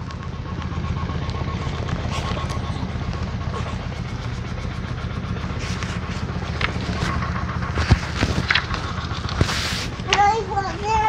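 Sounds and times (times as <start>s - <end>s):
air-pulse generator rumble: 0.0s - 11.0s.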